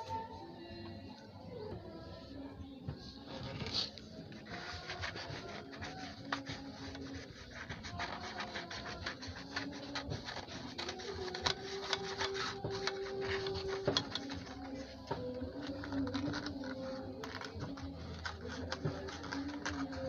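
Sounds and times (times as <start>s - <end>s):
plastic blade scratching speaker cone: 3.3s - 20.0s.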